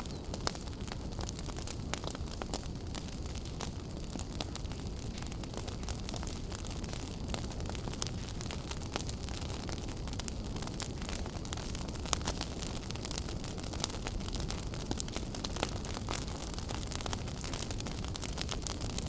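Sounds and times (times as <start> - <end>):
fire crackling in fireplace: 0.0 - 19.0.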